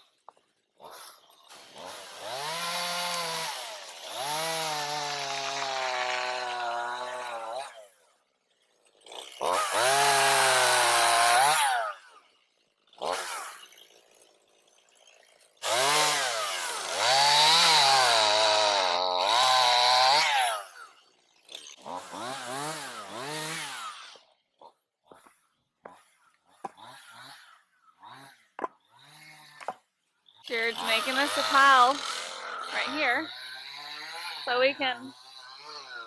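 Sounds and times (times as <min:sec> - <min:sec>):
chainsaw revving while cutting: 0:00.2 - 0:36.0.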